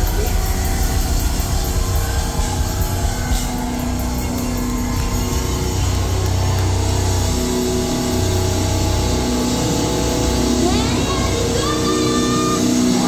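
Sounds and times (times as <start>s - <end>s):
metalcore band playing live: 0.0s - 13.0s.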